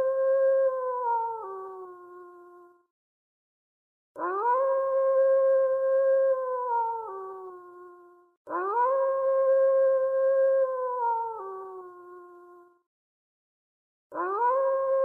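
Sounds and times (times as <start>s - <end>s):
long howl: 0.0s - 2.7s, 4.2s - 12.8s, 14.1s - 15.0s.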